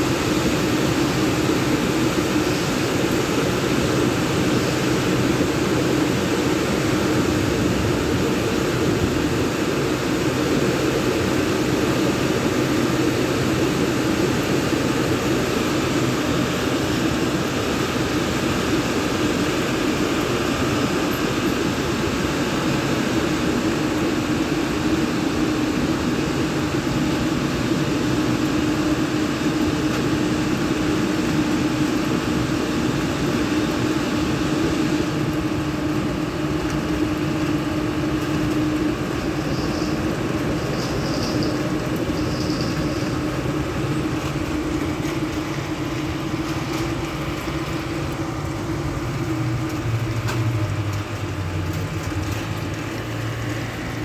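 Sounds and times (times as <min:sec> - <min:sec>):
car wash blowers rushing air: 0:00.0 - 0:54.0.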